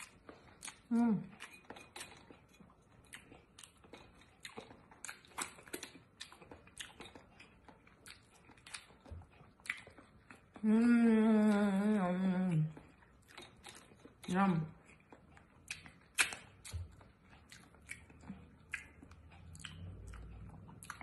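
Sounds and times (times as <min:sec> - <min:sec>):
person chewing egg: 0:00.0 - 0:21.0.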